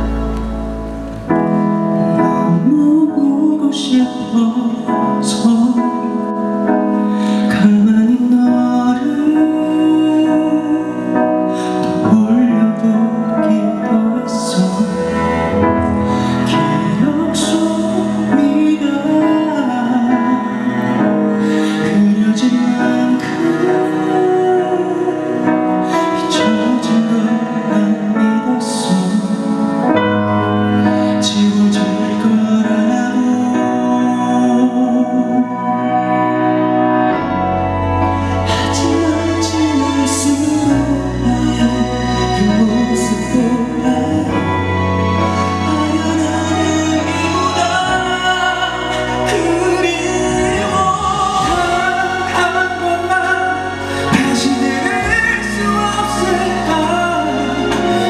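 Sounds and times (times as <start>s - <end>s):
man singing: 0.0s - 58.0s
piano and keyboard accompaniment: 0.0s - 58.0s.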